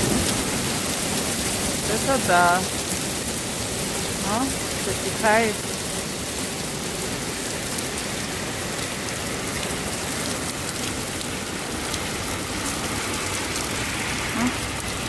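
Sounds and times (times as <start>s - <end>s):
hailstones ticking on asphalt: 0.0s - 15.0s
heavy rain hissing: 0.0s - 15.0s.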